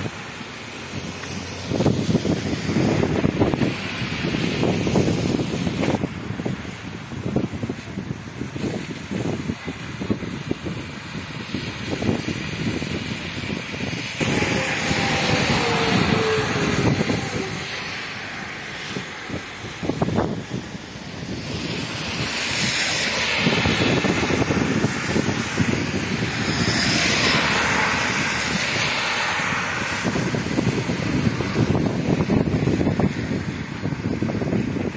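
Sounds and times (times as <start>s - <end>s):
car tyres splashing through water: 0.0s - 34.9s.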